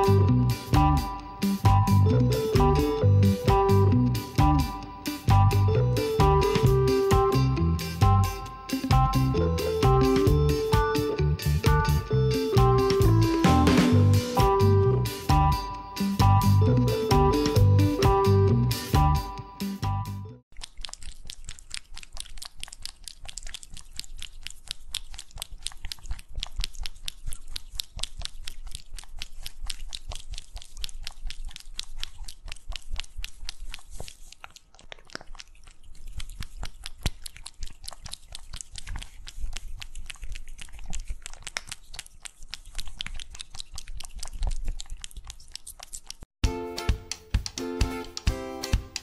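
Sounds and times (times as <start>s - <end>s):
kitten licking and smacking: 0.0s - 19.2s, 20.5s - 49.0s.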